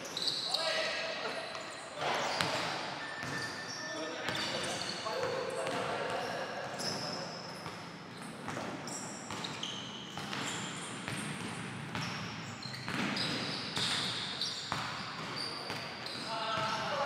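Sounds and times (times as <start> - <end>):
sneakers squeaking on floor: 0.0 - 17.0.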